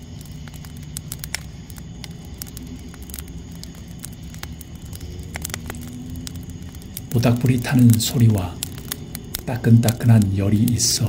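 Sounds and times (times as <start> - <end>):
sharp pops from fire: 0.0 - 11.0
steady low hum: 0.0 - 11.0
wood fire crackling: 0.0 - 11.0.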